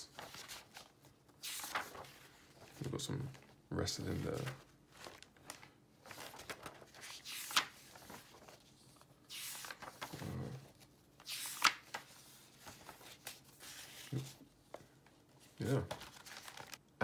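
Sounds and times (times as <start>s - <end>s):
paper pages turning: 0.0s - 16.8s.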